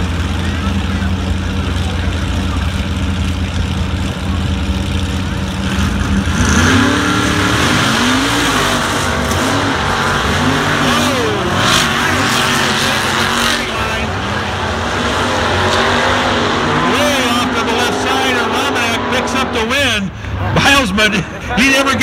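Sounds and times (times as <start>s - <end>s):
off-road engines revving: 0.0s - 22.0s.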